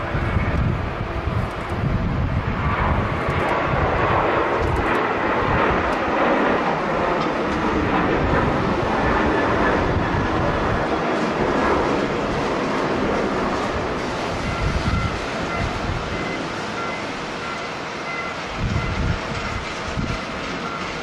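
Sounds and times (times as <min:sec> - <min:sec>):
wind buffeting microphone: 0:00.0 - 0:17.4, 0:18.4 - 0:21.0
jet engines roaring: 0:00.0 - 0:21.0.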